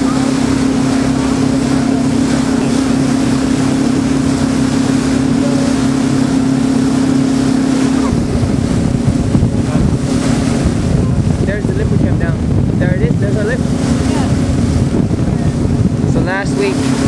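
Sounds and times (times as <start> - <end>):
boat engine humming: 0.0 - 17.0
rushing wind and sea: 0.0 - 17.0
wind buffeting the microphone: 0.0 - 17.0.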